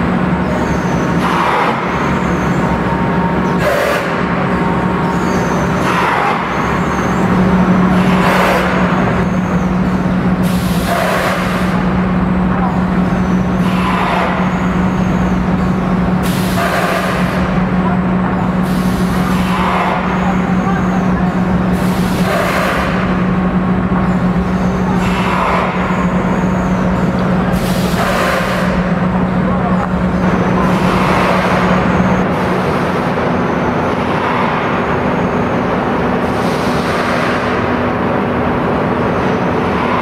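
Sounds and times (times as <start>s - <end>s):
steady machine hum: 0.0s - 40.0s.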